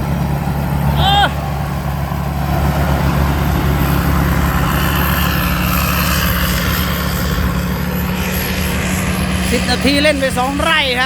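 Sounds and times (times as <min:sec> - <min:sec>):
diesel engine drone: 0:00.0 - 0:11.0
rushing machinery noise: 0:00.0 - 0:11.0.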